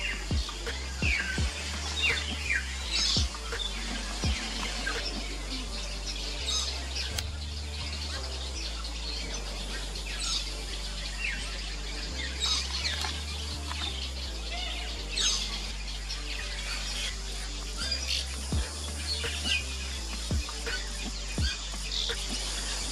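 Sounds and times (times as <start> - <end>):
birds twittering: 0.0 - 22.9.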